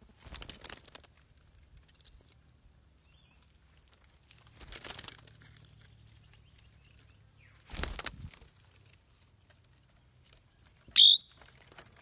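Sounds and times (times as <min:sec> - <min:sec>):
bird scrabbling on bark: 0:00.0 - 0:02.4, 0:03.4 - 0:12.0.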